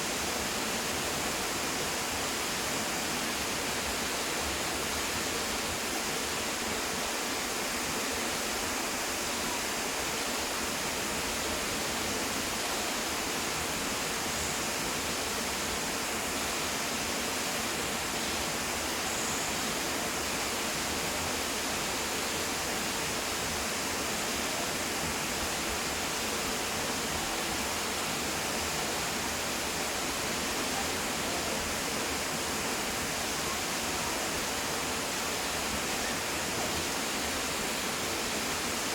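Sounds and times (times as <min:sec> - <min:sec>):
waterfall pouring and crashing: 0:00.0 - 0:38.9.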